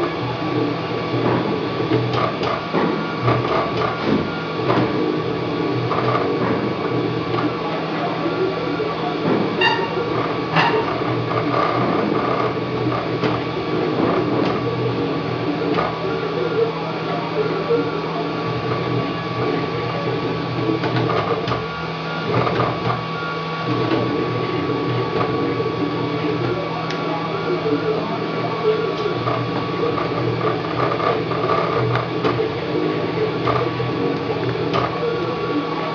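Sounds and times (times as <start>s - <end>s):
steady hum: 0.0s - 35.9s.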